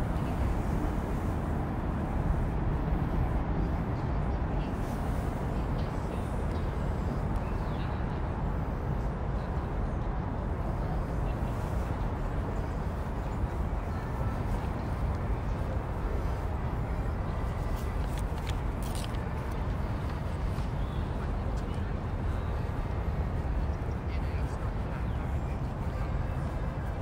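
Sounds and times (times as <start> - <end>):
traffic rumble: 0.0 - 27.0
wind: 0.0 - 27.0.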